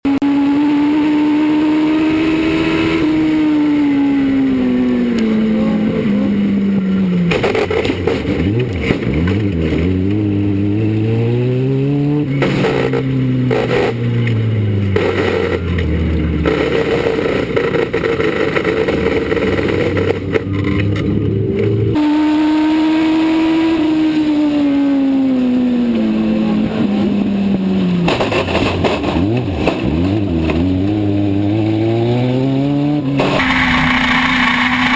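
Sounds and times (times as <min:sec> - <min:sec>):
race car engines: 0:00.0 - 0:34.9.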